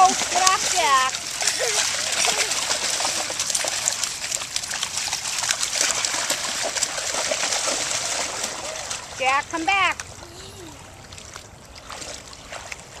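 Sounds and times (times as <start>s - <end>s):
dogs splashing in water: 0.0s - 10.2s, 10.8s - 13.0s
running water rushing: 0.0s - 13.0s.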